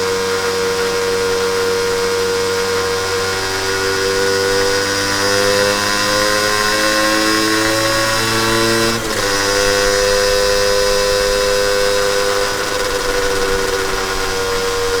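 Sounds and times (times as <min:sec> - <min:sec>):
buzzy two-stroke engine: 0:00.0 - 0:15.0.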